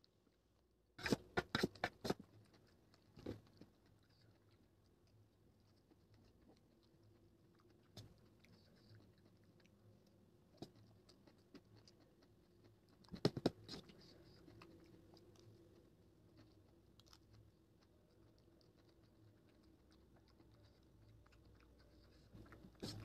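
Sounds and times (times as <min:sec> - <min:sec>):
person chewing: 0:01.0 - 0:23.0.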